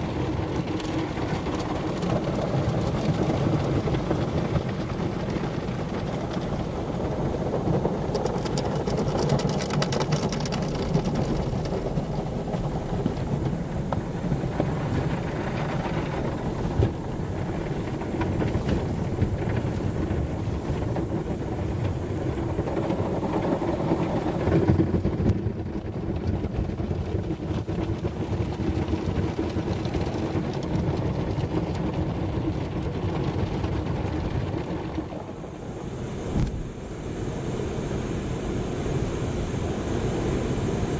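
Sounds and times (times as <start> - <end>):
car wash machinery and water: 0.0 - 40.9.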